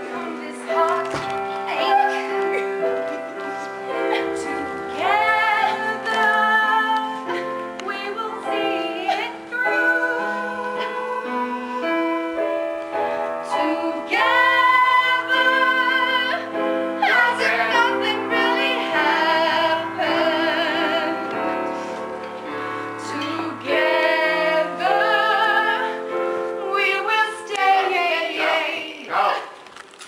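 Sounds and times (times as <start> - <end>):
woman singing with vibrato: 0.0 - 2.6, 3.9 - 12.4, 13.4 - 21.7, 23.0 - 26.0, 26.6 - 29.4
instrumental accompaniment: 0.0 - 28.9.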